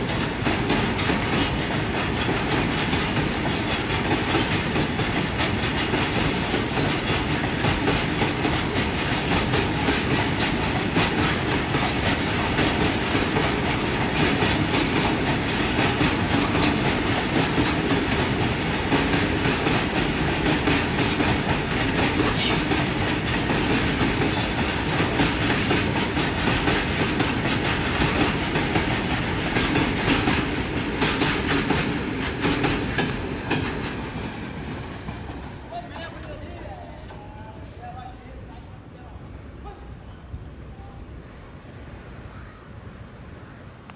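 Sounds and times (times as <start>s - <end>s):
wheels clacking over rail joints: 0.0s - 37.6s
freight train rumbling past: 0.0s - 43.9s.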